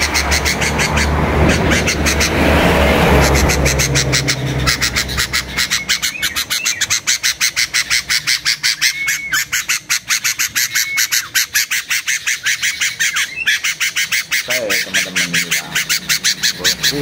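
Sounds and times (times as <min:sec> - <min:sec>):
songbird chattering: 0:00.0 - 0:17.0.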